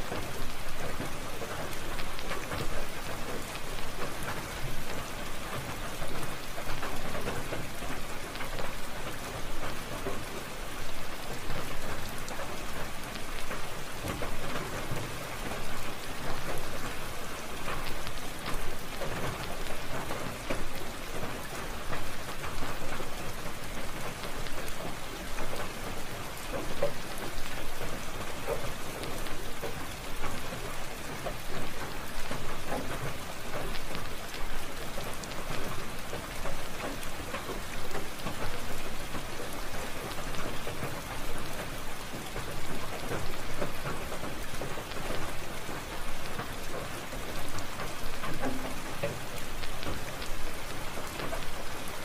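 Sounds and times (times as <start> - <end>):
steady rain: 0.0 - 52.0.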